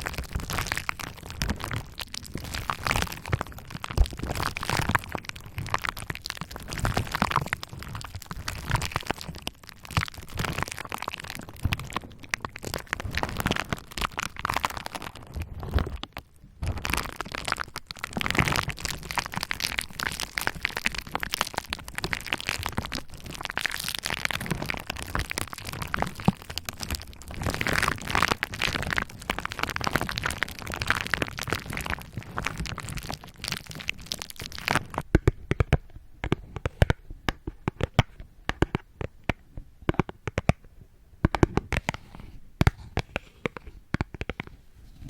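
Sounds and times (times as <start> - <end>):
bubble wrap crackling and popping: 0.0 - 40.6.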